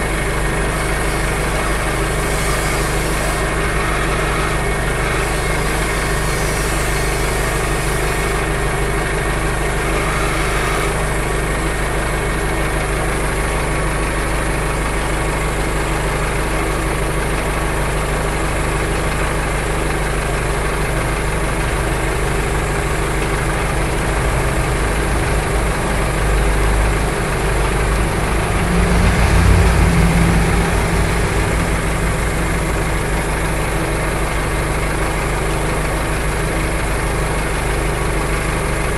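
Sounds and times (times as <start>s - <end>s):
machine drone with low hum: 0.0s - 38.9s.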